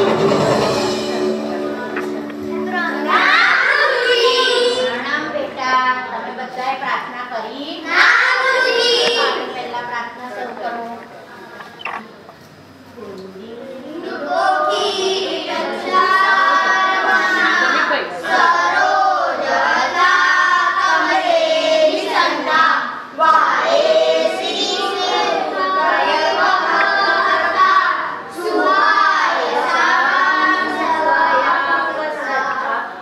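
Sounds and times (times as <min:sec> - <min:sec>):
children singing a prayer: 0:00.0 - 0:06.3, 0:07.7 - 0:11.9, 0:13.8 - 0:33.0.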